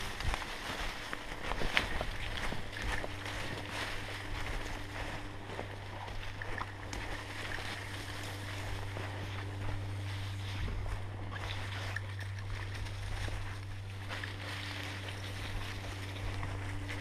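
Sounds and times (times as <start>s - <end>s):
footsteps in dry leaves: 0.0s - 17.0s
steady low hum: 0.0s - 17.0s.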